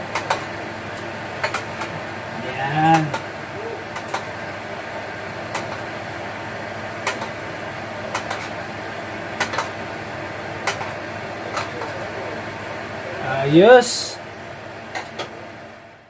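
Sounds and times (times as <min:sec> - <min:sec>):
fan-like whirring: 0:00.0 - 0:16.0.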